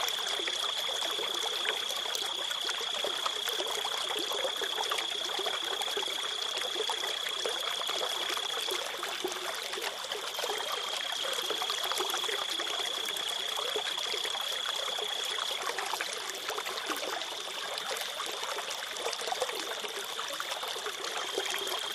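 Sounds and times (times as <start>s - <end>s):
running water: 0.0s - 21.9s.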